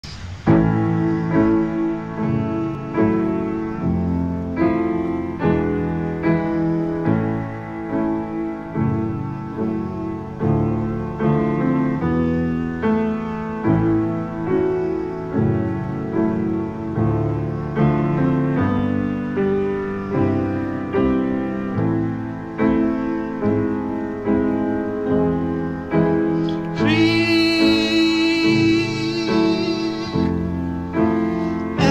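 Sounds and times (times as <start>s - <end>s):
solo piano chords: 0.0s - 31.9s.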